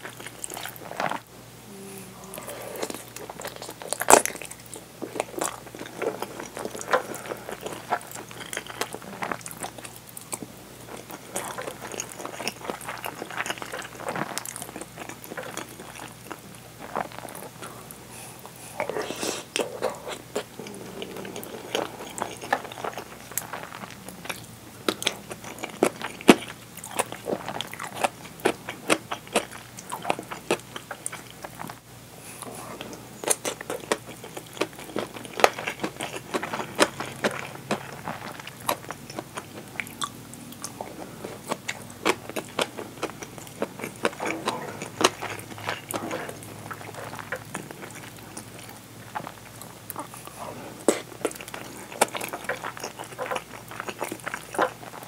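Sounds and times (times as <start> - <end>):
close chewing with wet mouth clicks: 0.0 - 1.2, 2.8 - 18.9, 19.5 - 31.8, 33.2 - 55.0.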